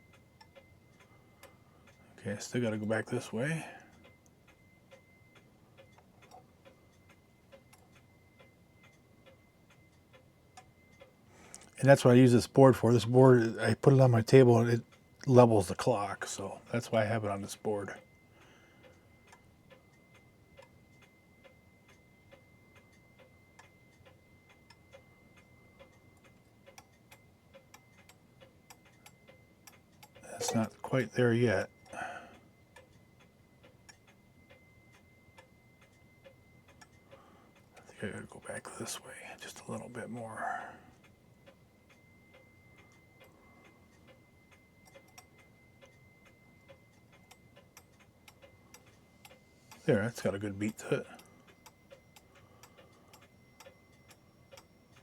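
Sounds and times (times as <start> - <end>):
pendulum clock ticking faintly: 0.0 - 55.0.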